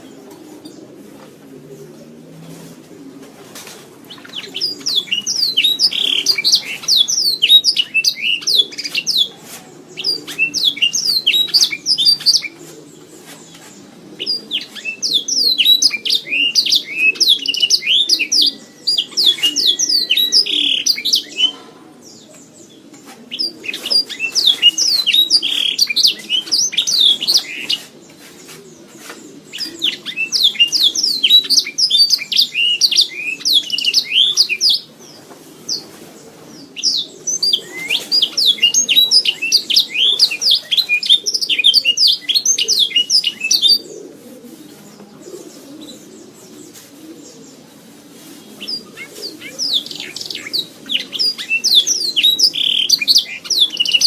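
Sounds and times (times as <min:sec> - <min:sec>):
canary singing: 0:04.1 - 0:44.1, 0:48.5 - 0:54.0.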